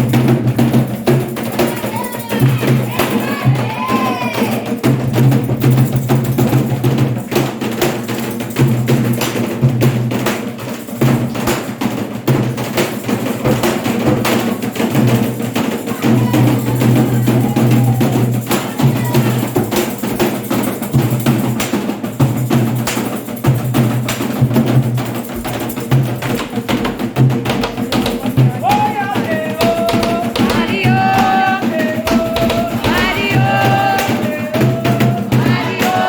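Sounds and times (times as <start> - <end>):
hand drums playing: 0.0 - 36.0.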